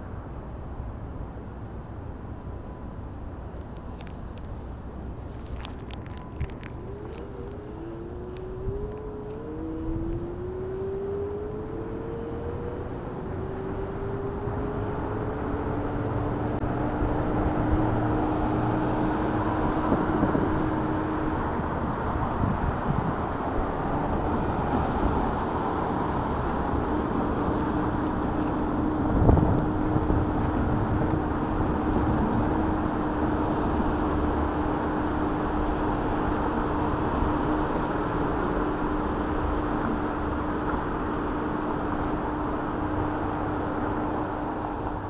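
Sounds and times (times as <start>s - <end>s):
wind and road noise: 0.0s - 45.0s.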